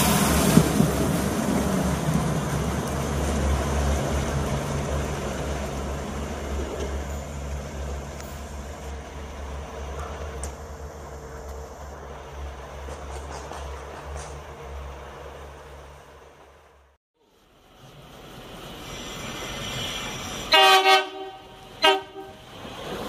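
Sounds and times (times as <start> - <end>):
diesel train engine humming: 0.0 - 23.0.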